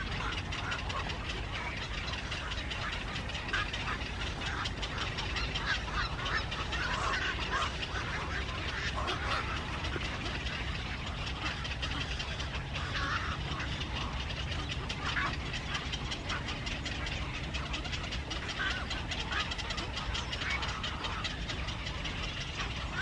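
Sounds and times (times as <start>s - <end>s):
birds short rough calls: 0.0s - 23.0s.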